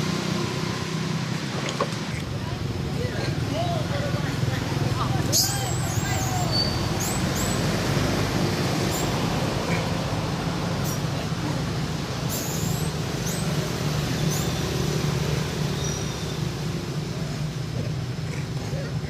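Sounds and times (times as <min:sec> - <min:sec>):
vehicle rumble with road noise: 0:00.0 - 0:19.0.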